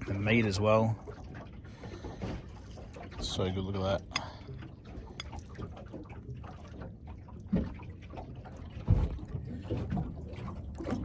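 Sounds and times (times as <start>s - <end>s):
water lapping against metal hull: 0.0s - 11.0s.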